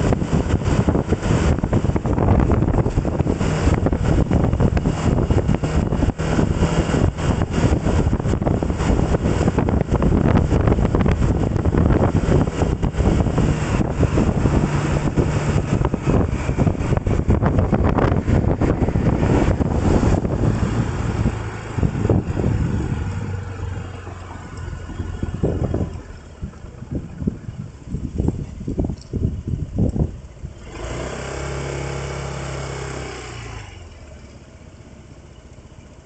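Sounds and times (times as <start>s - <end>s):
wind buffeting microphone: 0.0s - 33.5s
vehicle running noise: 0.0s - 36.0s.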